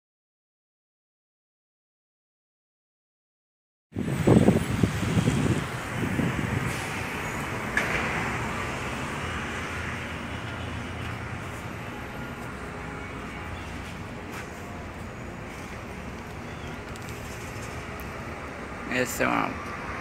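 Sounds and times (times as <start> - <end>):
vehicle rumble: 3.9 - 20.0.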